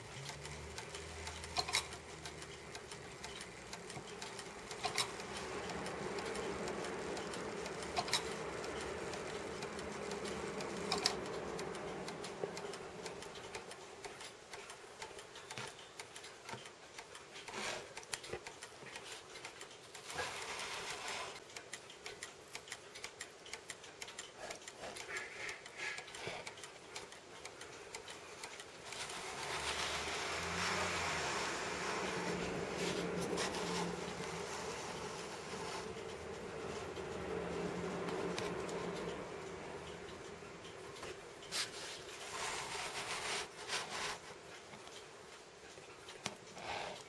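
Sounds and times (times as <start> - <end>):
clock gears whirring: 0.0 - 47.0
clock movement ticking: 0.0 - 47.0
sharp clock clicks: 0.0 - 47.0.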